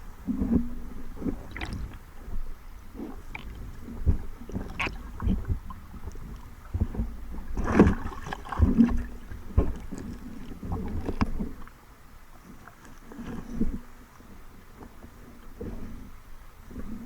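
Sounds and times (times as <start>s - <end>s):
water sloshing and splashing: 0.2s - 13.9s.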